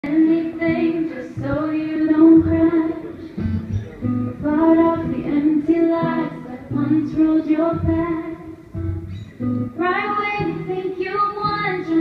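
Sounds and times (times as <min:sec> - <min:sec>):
woman singing into microphone: 0:00.0 - 0:03.2, 0:04.3 - 0:08.6, 0:09.7 - 0:12.0
strummed acoustic guitar: 0:00.1 - 0:12.0.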